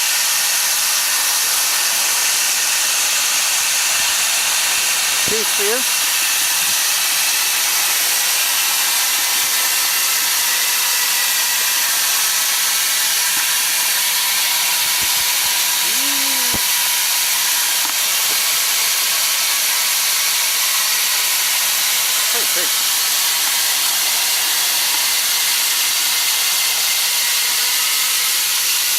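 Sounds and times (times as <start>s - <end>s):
steam hissing: 0.0s - 28.9s.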